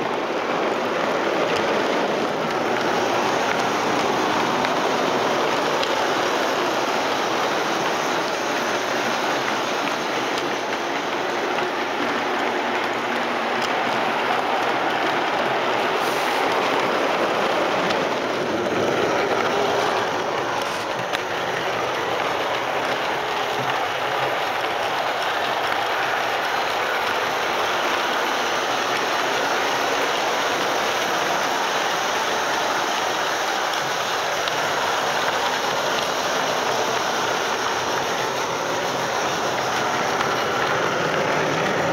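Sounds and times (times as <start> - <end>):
model train wheels on rails: 0.0 - 41.9.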